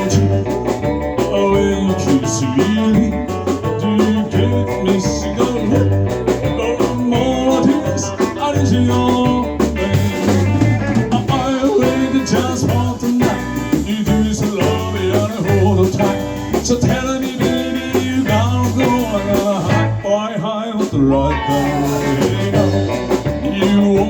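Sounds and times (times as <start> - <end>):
drum kit steady beat: 0.0 - 20.1, 21.5 - 24.0
electric guitar playing: 0.0 - 20.2, 21.0 - 24.0
bass guitar: 0.0 - 24.0.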